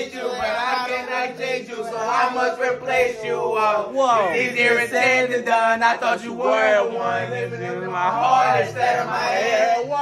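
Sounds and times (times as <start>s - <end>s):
man singing: 0.0s - 10.0s.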